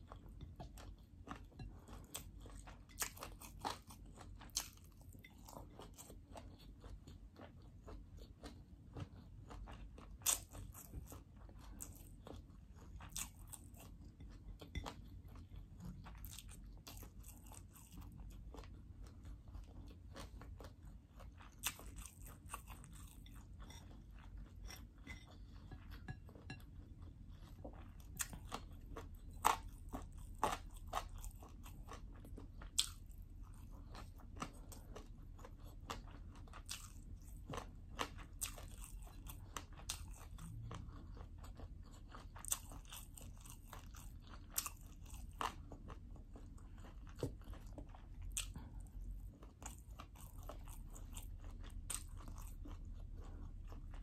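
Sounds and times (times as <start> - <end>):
chewing and crunching food: 0.0 - 54.0
faint low hum: 0.0 - 54.0.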